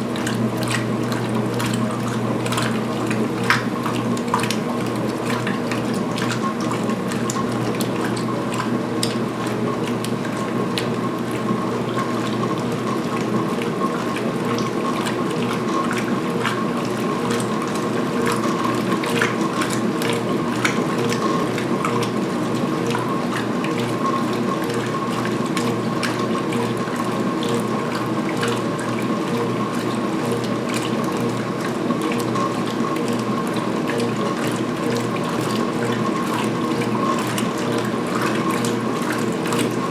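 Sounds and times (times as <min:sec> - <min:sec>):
clicks and knocks of churning towels: 0:00.0 - 0:39.9
washing machine motor hum: 0:00.0 - 0:39.9
water sloshing: 0:00.0 - 0:39.9.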